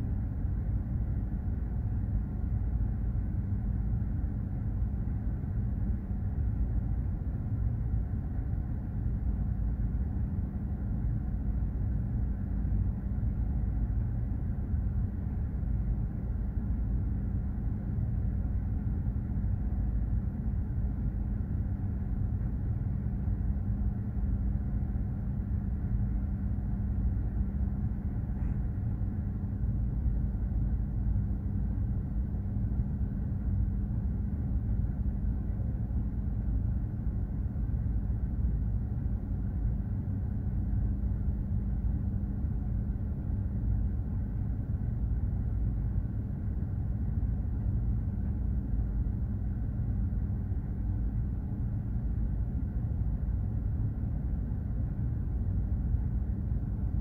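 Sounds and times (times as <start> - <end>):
ship engine rumble and hum: 0.0 - 57.0.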